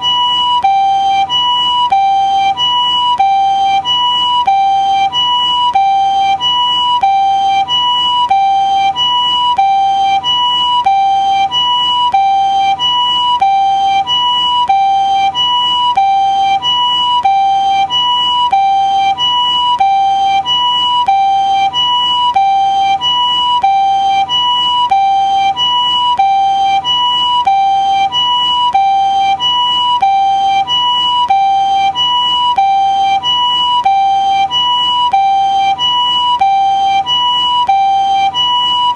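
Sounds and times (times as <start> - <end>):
two-tone ambulance siren: 0.0 - 38.9.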